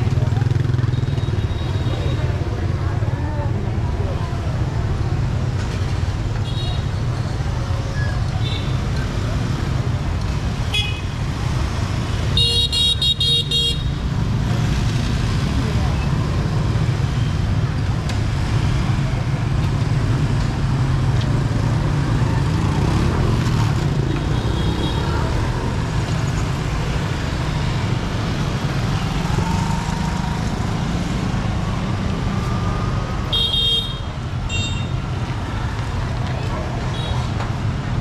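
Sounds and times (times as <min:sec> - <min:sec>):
traffic engines rumbling: 0:00.0 - 0:38.0.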